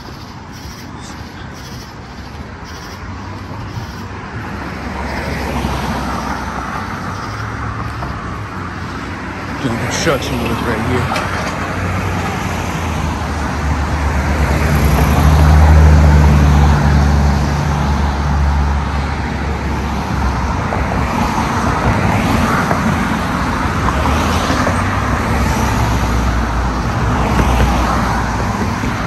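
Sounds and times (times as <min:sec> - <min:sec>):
road traffic noise: 0:00.0 - 0:29.0
vehicle engine hum: 0:00.0 - 0:29.0.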